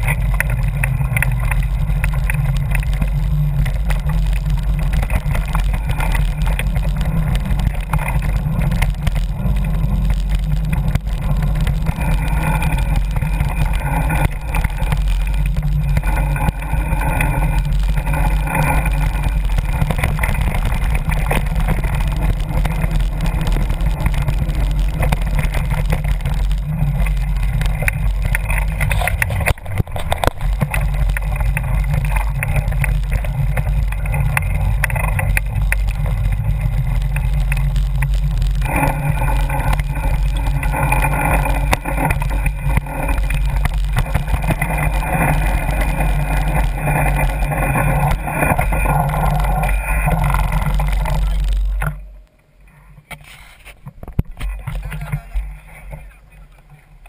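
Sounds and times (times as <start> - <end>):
rattles and jolts on dirt trail: 0.0 - 57.0
wind rumble on microphone: 0.0 - 57.0.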